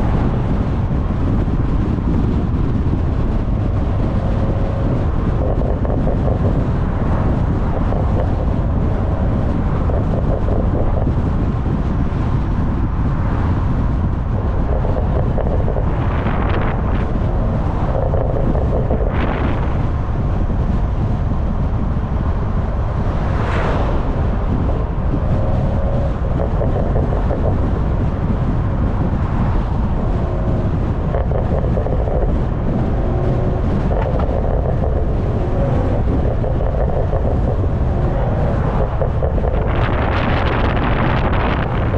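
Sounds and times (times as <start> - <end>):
car exhaust drone: 0.0 - 41.9
wind buffeting microphone: 0.0 - 41.9.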